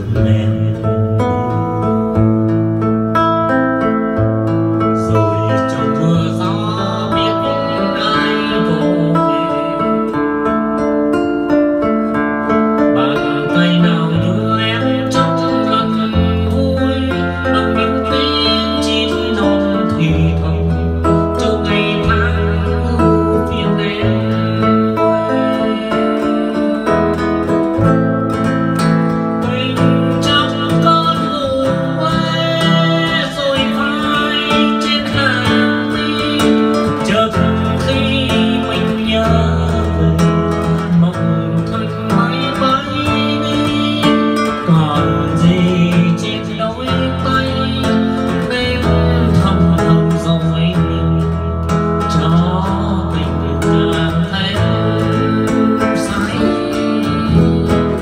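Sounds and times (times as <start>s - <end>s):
acoustic guitar ballad: 0.0s - 58.0s.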